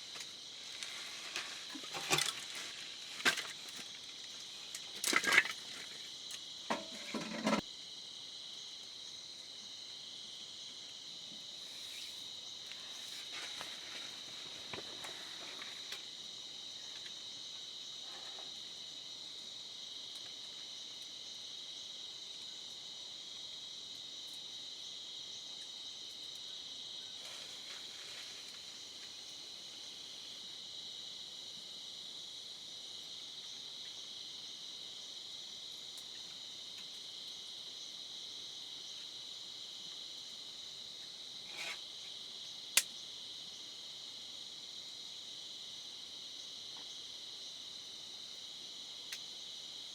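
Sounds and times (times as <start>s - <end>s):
insect chorus trilling: 0.0s - 49.9s.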